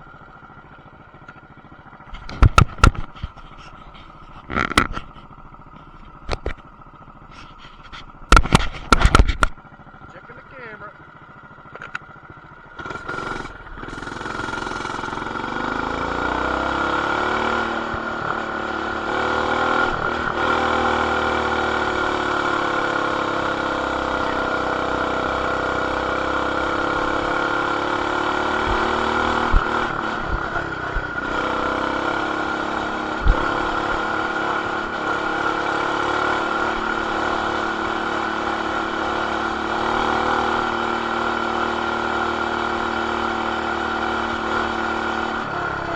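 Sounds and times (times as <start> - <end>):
mini bike engine revving: 0.0 - 45.9.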